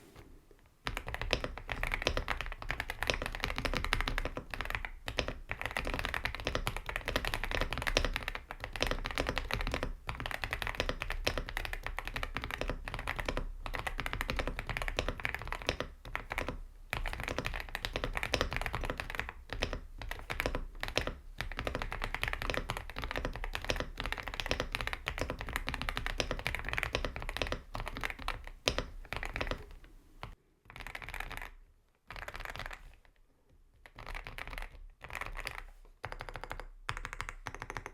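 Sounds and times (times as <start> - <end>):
fast typing on mechanical keyboard: 0.8 - 33.0, 33.8 - 37.9.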